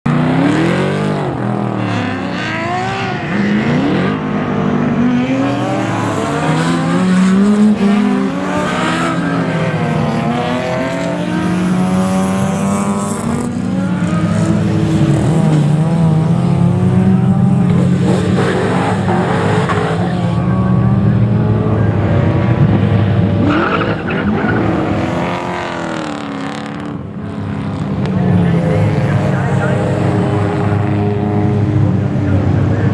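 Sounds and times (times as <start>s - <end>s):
race car engines revving: 0.1s - 32.9s.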